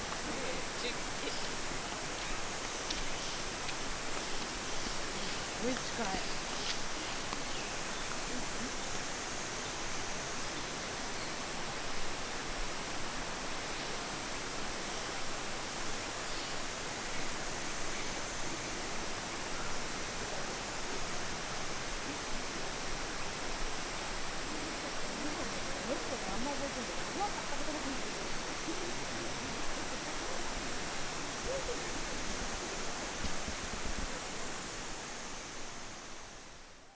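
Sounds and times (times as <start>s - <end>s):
waterfall rushing: 0.0s - 36.6s.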